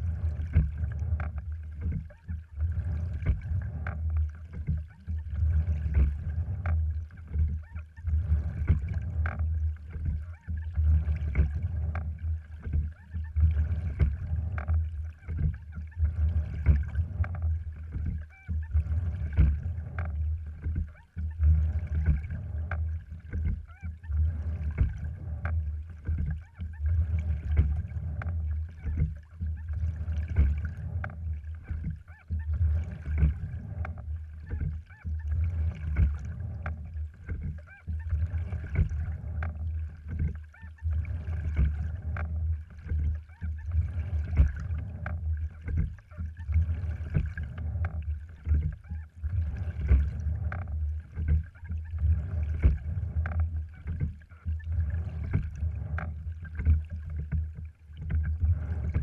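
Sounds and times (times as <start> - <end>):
low rumble: 0.0 - 59.0
oars and rigging knocking: 0.0 - 59.0
water rushing along a hull: 0.0 - 59.0.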